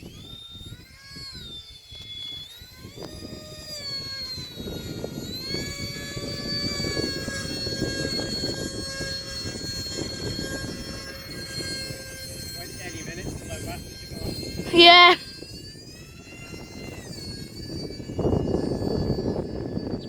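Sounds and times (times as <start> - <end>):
model jet fans whining: 0.0 - 20.0
wind rumbling on microphone: 2.3 - 14.7, 15.3 - 20.0.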